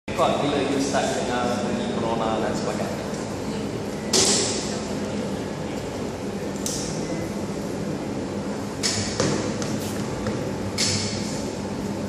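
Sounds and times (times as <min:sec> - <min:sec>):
electrical equipment humming: 0:00.1 - 0:12.0.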